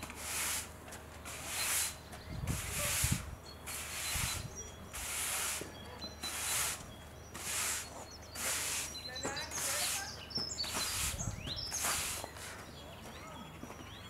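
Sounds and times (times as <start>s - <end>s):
brush strokes swishing: 0.1s - 6.8s, 7.4s - 10.1s, 10.7s - 12.5s.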